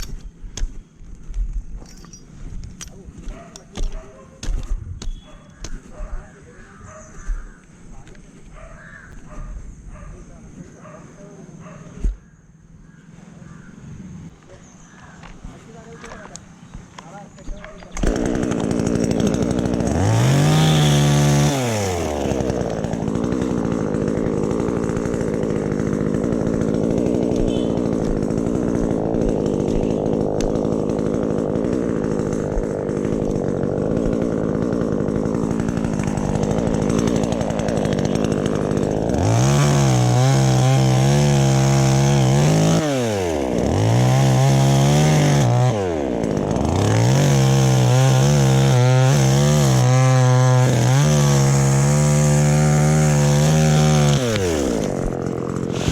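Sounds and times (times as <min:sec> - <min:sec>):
chainsaw cutting wood: 0:00.0 - 0:06.2, 0:15.2 - 0:55.9.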